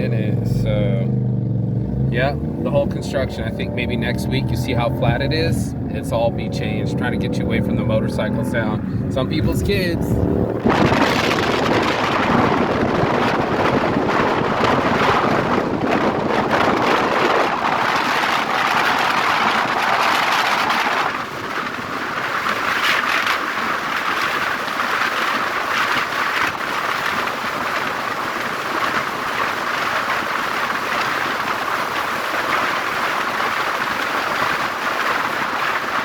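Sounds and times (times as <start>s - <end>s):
vehicle road noise: 0.0s - 36.0s
wind on microphone: 0.0s - 36.0s.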